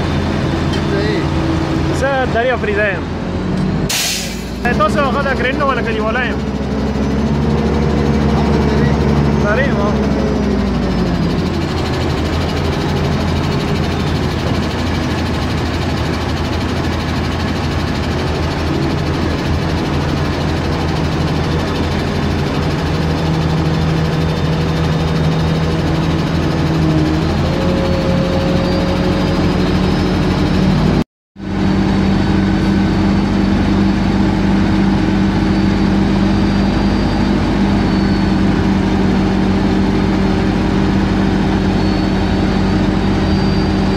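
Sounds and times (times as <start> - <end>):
heavy diesel crane engine running: 0.0 - 43.9.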